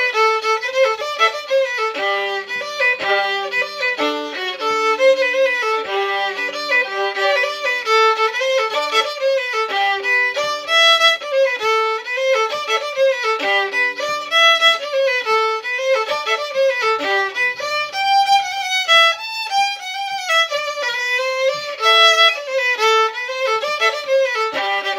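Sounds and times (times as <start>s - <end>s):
solo fiddle playing: 0.0s - 24.9s.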